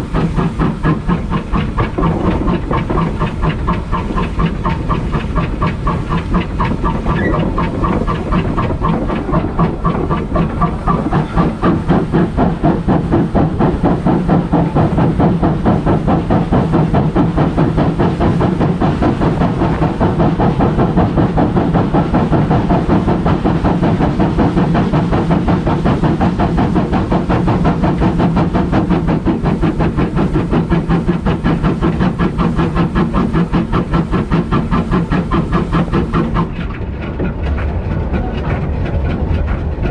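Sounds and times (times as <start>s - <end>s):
steam hissing: 0.0s - 36.7s
steam locomotive exhaust beats: 0.0s - 39.9s.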